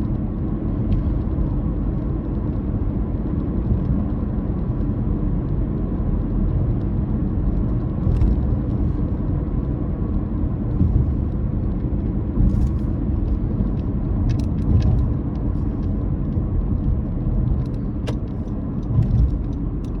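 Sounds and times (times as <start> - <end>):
car engine drone: 0.0 - 20.0
road rumble: 0.0 - 20.0.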